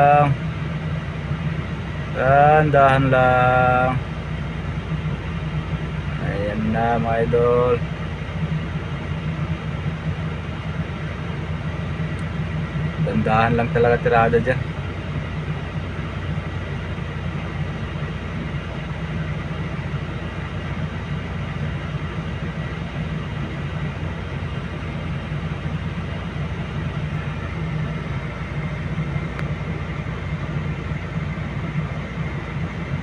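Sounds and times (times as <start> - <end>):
excavator diesel engine humming: 0.0 - 33.0
faint steady whine: 0.0 - 33.0.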